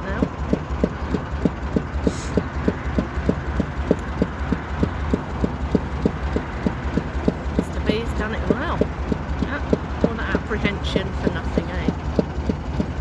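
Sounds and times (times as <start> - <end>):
boat diesel engine knocking: 0.0 - 13.0.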